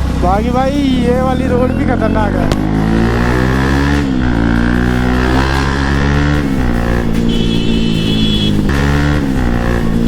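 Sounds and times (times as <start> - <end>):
background music: 0.0 - 10.0
motorcycle running: 0.0 - 10.0.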